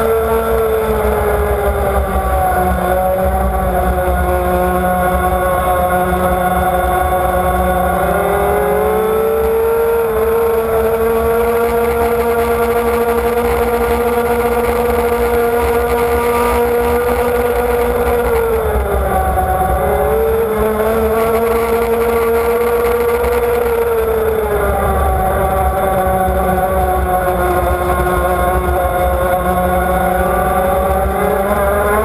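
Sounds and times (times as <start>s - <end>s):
powerboat engine at high speed: 0.0s - 32.0s.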